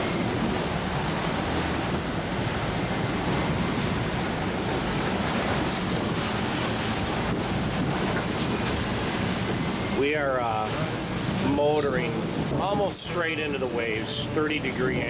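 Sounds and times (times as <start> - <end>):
ocean waves washing: 0.0 - 15.0
strong wind on microphone: 0.0 - 15.0.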